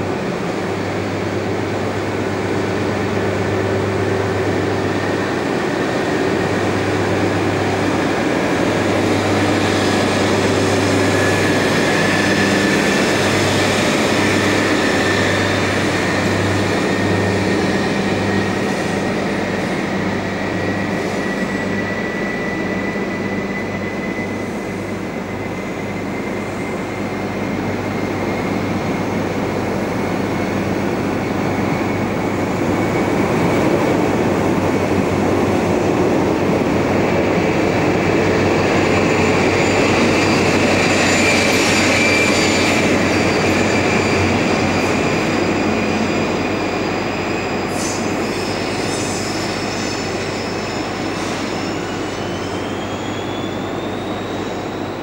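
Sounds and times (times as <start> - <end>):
train high whine rising: 0.0 - 55.0
train low hum: 0.0 - 55.0.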